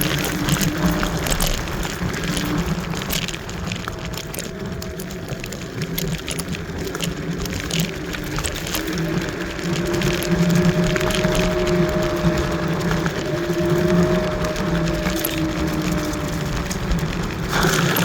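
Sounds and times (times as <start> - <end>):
electric scooter motor hum: 0.0 - 18.0.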